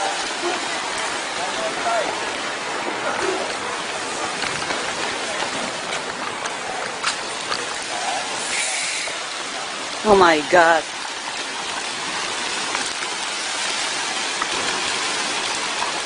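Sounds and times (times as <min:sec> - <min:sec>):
heavy rain and running water: 0:00.0 - 0:16.0.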